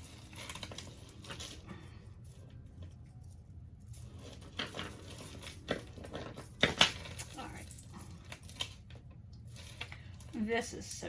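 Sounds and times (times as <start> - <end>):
metal jewelry chains clicking: 0.0 - 11.0.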